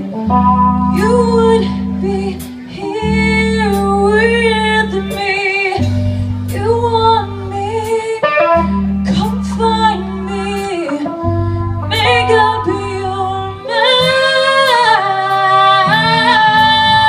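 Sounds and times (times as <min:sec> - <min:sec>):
live band playing: 0:00.0 - 0:17.0
person singing lead vocals: 0:00.0 - 0:17.0.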